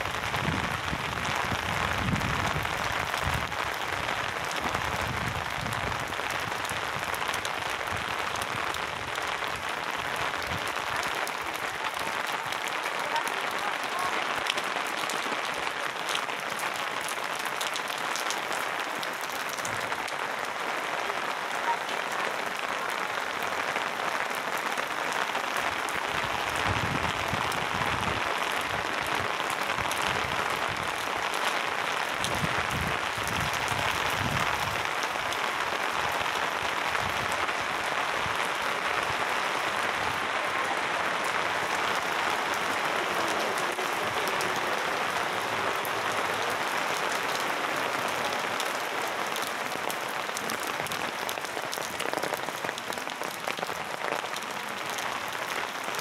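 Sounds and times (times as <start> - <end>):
heavy rain on stone paving: 0.0 - 56.0.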